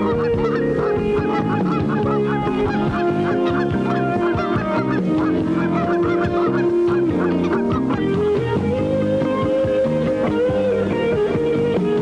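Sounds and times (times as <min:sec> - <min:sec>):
geese honking: 0:00.0 - 0:12.0
music with long held notes: 0:00.0 - 0:12.0.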